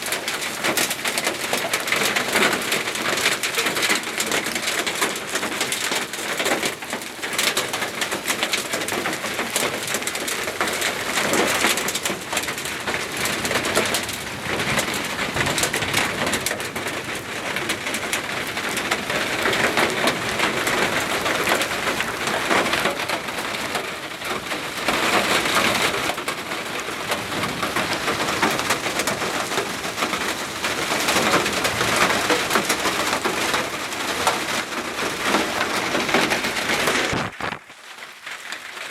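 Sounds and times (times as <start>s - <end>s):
hail and rain pelting down: 0.0s - 38.9s.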